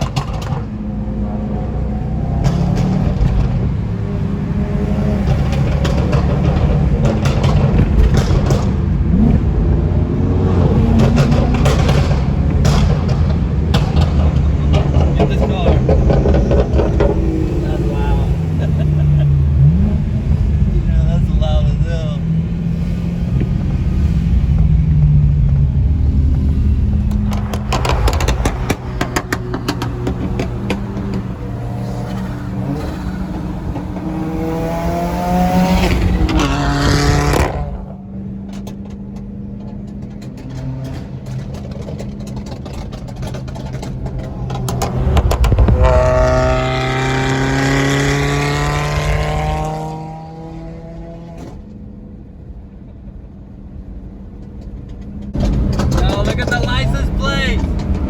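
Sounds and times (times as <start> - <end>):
sports car engine accelerating: 0.0 - 58.0.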